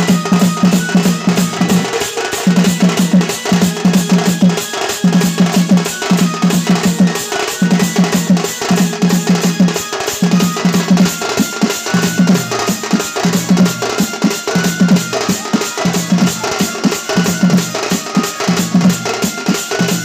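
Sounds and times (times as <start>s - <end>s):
dhol drum playing fast: 0.0s - 20.0s
high held melody line: 0.0s - 20.0s.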